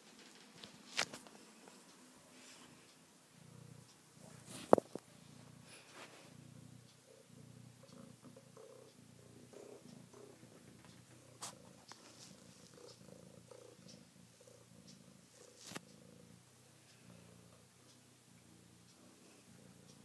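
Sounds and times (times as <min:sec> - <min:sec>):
cat purring: 0:00.1 - 0:20.0.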